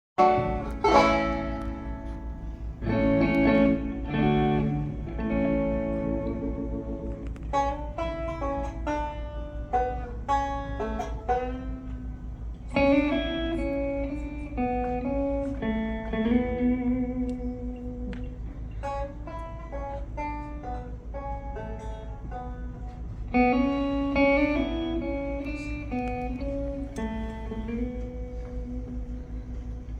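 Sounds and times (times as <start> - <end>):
country guitar playing: 0.2 - 29.9.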